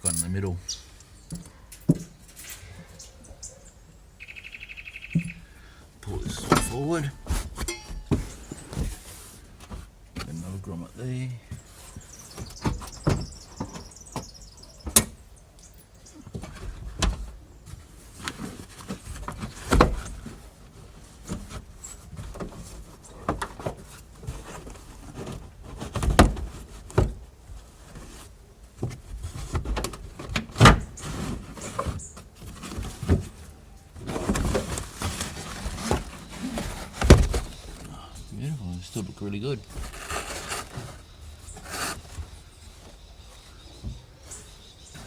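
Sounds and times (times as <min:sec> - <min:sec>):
rustling: 0:05.7 - 0:15.2, 0:15.8 - 0:45.0.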